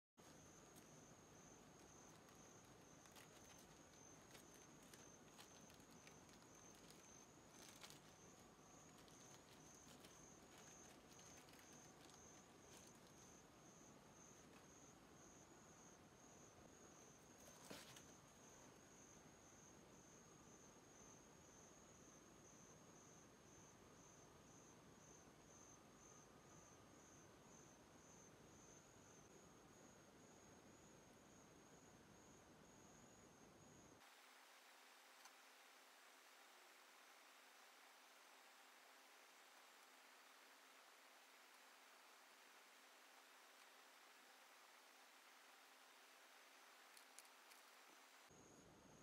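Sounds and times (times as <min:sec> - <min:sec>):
cricket chirping: 0:00.2 - 0:49.0.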